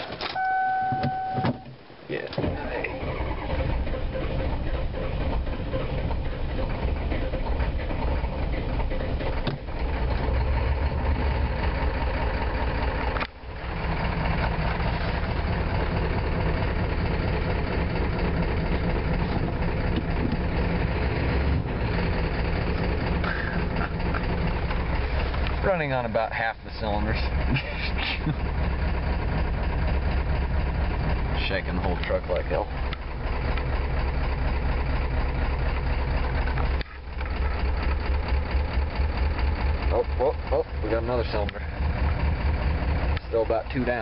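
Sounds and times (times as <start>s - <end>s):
diesel engine running rough: 0.0s - 44.0s.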